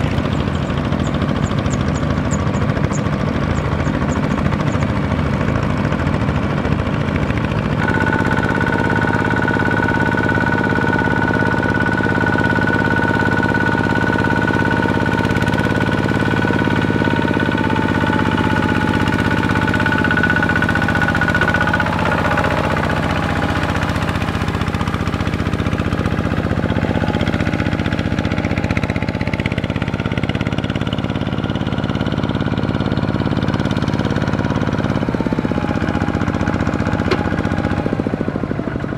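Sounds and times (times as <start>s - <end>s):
diesel engines knocking under load: 0.0s - 38.9s.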